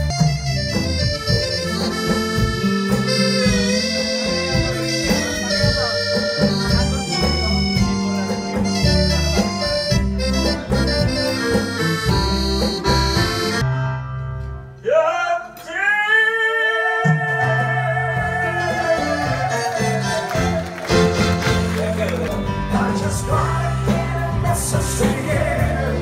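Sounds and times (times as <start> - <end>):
bass line: 0.0 - 14.8, 17.1 - 26.0
electric guitar: 0.0 - 14.8, 17.4 - 26.0
keyboard melody: 0.0 - 14.9, 16.8 - 26.0.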